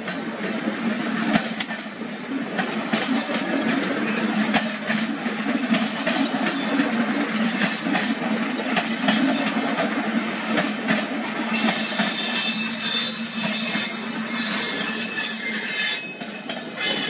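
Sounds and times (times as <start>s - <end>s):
train wheels clickety-clack: 0.0s - 17.0s.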